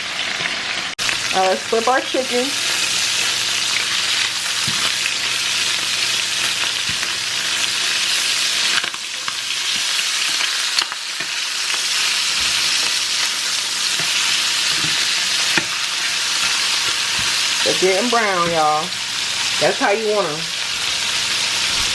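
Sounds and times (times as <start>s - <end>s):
chicken sizzling in oil: 0.0s - 21.9s.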